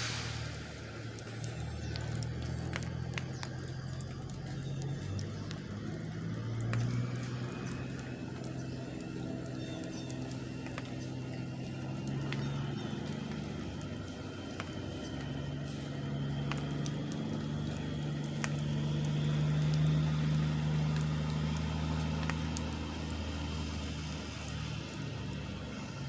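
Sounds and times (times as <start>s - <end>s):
diesel truck engine droning: 0.0s - 26.0s
faint clicks: 0.0s - 26.0s.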